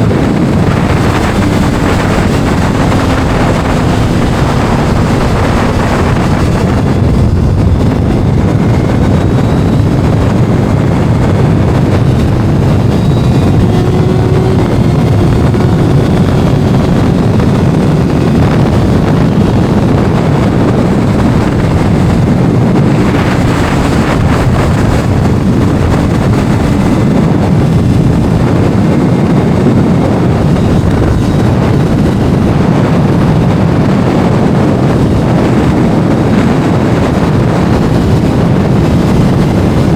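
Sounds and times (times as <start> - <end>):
faint motorcycle engine: 0.0 - 39.9
wind buffeting the microphone: 0.0 - 39.9.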